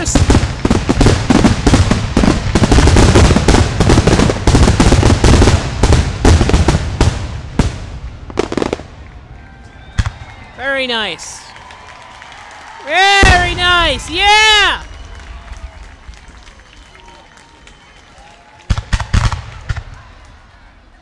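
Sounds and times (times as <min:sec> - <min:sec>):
fireworks bangs and crackles: 0:00.0 - 0:11.4, 0:12.9 - 0:16.8, 0:18.5 - 0:20.6.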